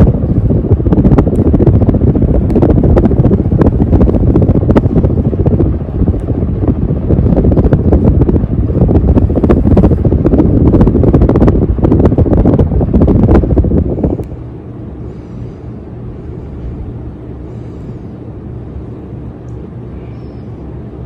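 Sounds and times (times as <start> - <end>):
fan wind buffeting microphone: 0.0 - 21.0.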